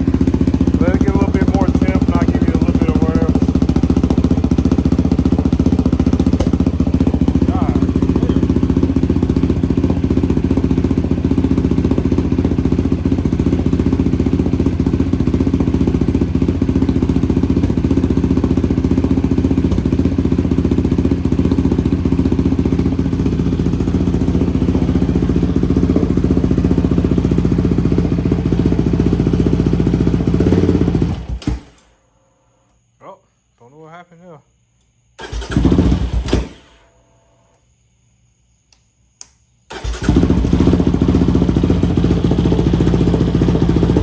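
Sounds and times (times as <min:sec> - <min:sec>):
engine idling: 0:00.0 - 0:31.8, 0:35.2 - 0:36.6, 0:39.7 - 0:44.0.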